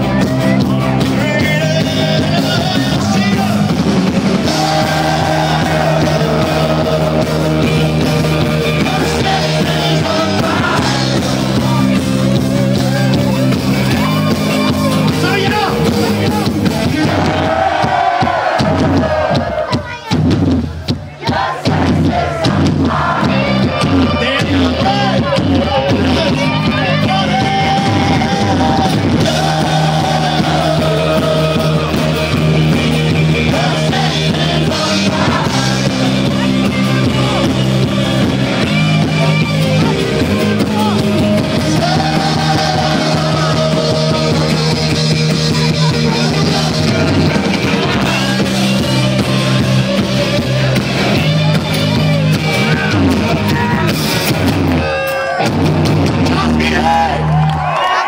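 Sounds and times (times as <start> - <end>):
person singing: 0.0 - 3.7, 4.4 - 17.6, 21.6 - 54.0
electric guitar and bass chords: 0.0 - 20.9, 21.6 - 57.8.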